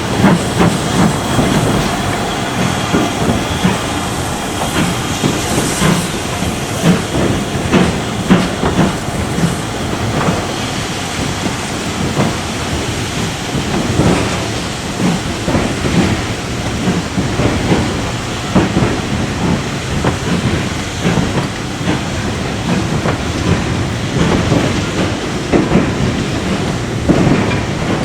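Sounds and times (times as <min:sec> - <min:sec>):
steam hissing: 0:00.0 - 0:28.0
train knocks and clanks: 0:00.0 - 0:28.0.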